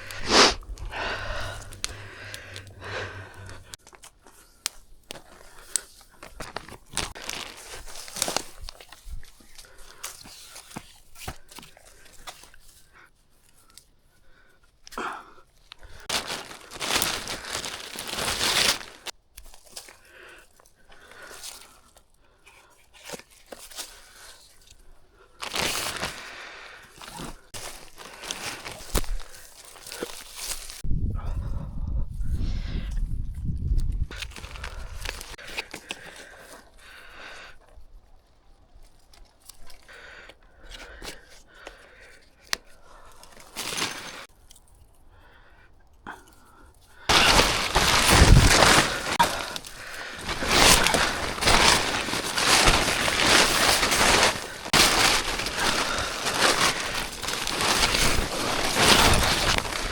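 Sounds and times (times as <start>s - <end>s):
dry twigs crunching and snapping: 0.0s - 12.6s, 15.6s - 22.0s, 23.0s - 30.8s, 33.8s - 36.8s, 38.7s - 45.0s, 46.2s - 59.9s.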